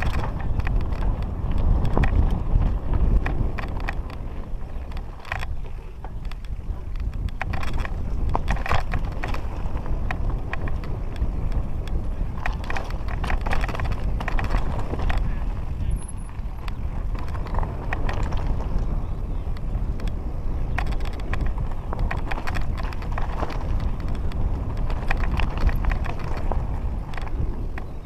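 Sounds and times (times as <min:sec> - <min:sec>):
bike clattering over stones: 0:00.0 - 0:19.0, 0:19.6 - 0:28.0
wind rumble on microphone: 0:00.0 - 0:28.0.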